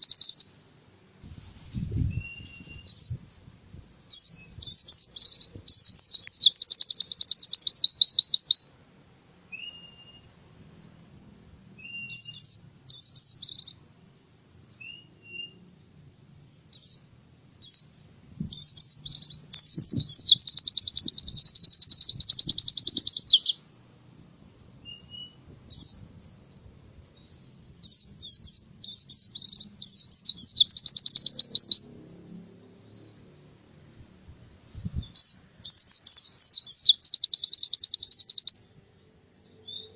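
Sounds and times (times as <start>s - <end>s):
bird chirps: 0.0s - 23.9s, 24.7s - 39.9s
bird singing rapid trills: 0.0s - 23.9s, 24.7s - 39.9s.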